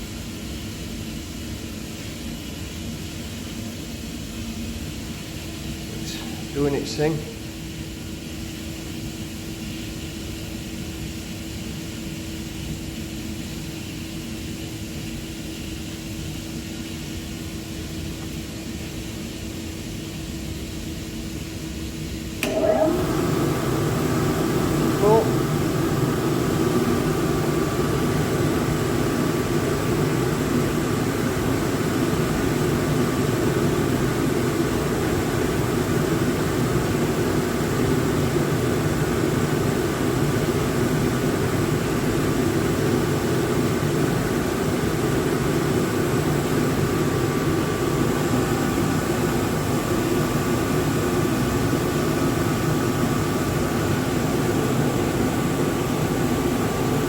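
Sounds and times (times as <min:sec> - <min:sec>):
gas boiler burner noise: 0:00.0 - 0:57.0.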